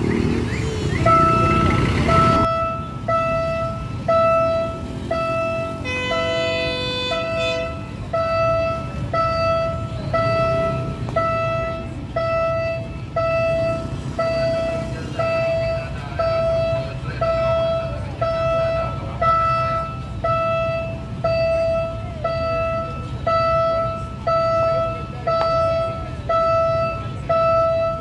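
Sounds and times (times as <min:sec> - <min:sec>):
level crossing alarm beeping: 0:00.0 - 0:28.0.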